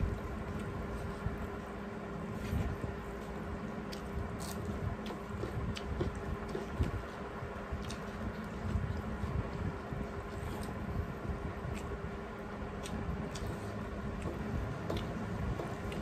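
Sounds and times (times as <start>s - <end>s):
steady low hum: 0.0s - 16.0s
chewing and mouth sounds: 2.4s - 16.0s.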